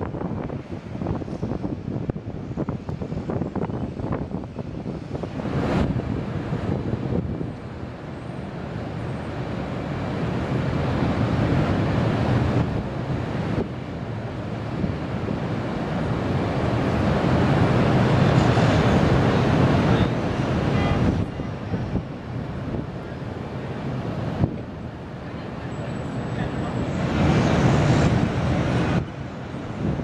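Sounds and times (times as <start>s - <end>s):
wind buffeting microphone: 0.0s - 7.8s, 8.8s - 25.2s, 26.4s - 30.0s.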